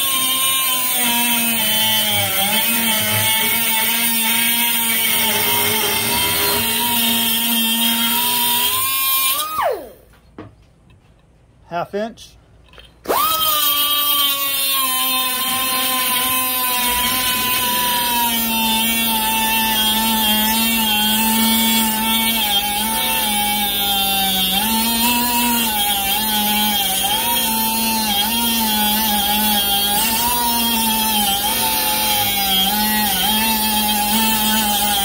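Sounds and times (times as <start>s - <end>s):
air grinder whining: 0.0s - 10.0s, 12.8s - 35.0s.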